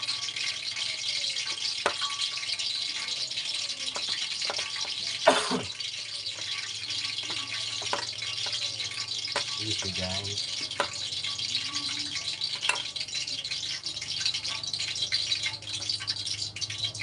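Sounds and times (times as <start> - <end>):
food rustling in flour: 0.0 - 17.0.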